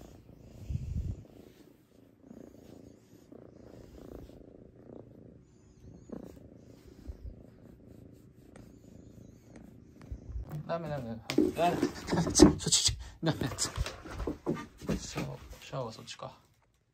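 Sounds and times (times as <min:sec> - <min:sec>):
cat purring: 0:00.0 - 0:16.8.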